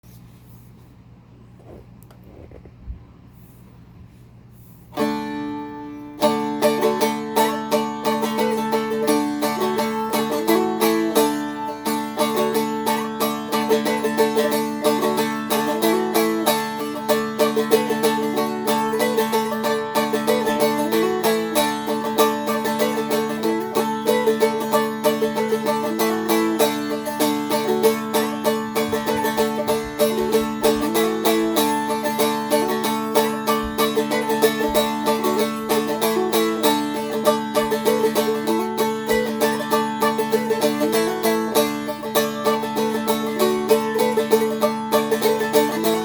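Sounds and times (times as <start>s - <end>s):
strummed dulcimer chords: 4.9s - 46.0s.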